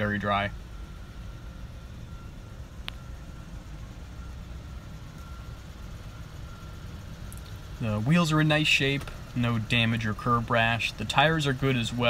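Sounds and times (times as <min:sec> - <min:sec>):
distant traffic rumble: 0:00.0 - 0:12.0
faint high beeps: 0:00.0 - 0:12.0.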